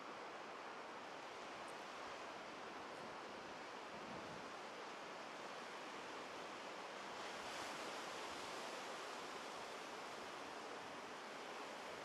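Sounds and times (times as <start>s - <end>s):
waves washing up a beach: 0.0s - 12.0s.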